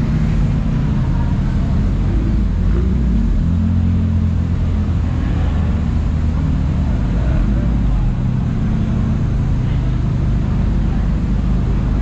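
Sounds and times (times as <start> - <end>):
car engine and exhaust rumbling: 0.0 - 12.0.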